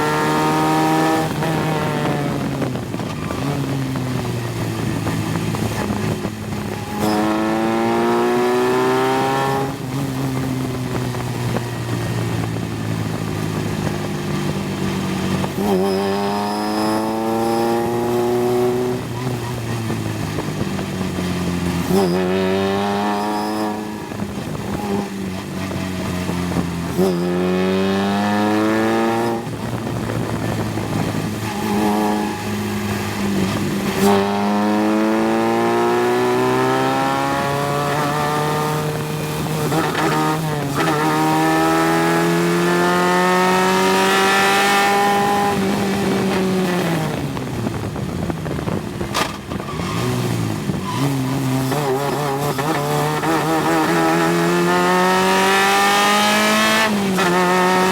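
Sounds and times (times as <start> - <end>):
race car engine upshifting: 0.0 - 57.9.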